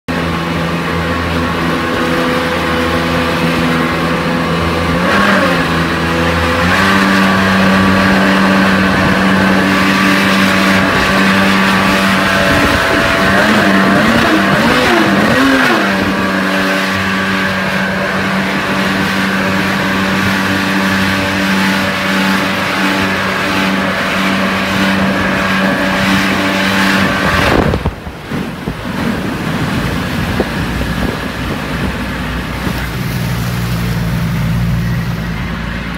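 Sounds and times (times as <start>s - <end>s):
outboard motor running: 0.1s - 35.9s
water noise: 0.1s - 35.9s
wind: 0.1s - 35.9s.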